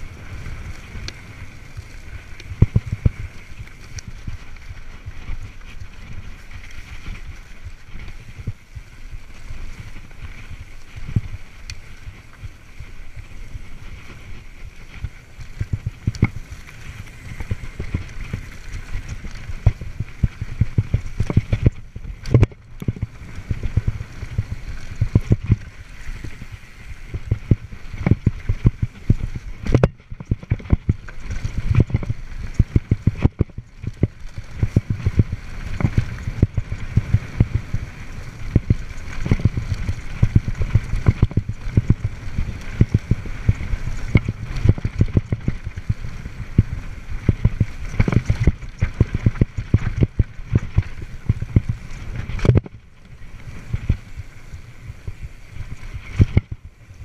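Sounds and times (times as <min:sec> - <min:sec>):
bike tyres rumbling on dirt: 0:00.0 - 0:57.0
wind on microphone: 0:00.0 - 0:57.0.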